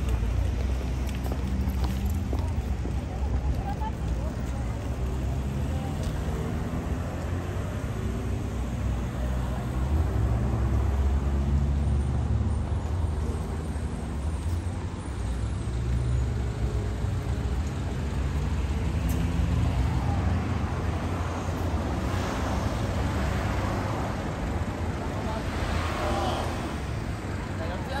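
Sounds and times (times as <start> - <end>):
vehicle engines rumbling: 0.0 - 28.0
vehicles passing: 0.0 - 28.0.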